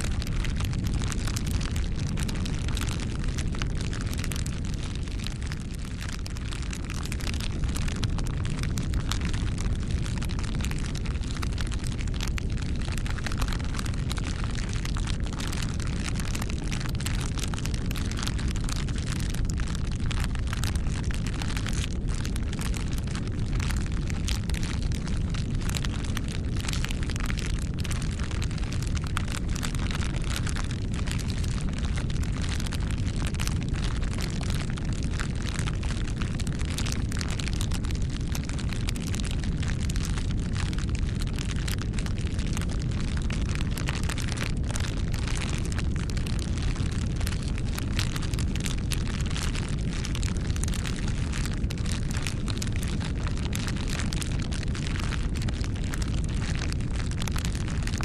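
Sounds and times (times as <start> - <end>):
bonfire crackling: 0.0 - 58.0.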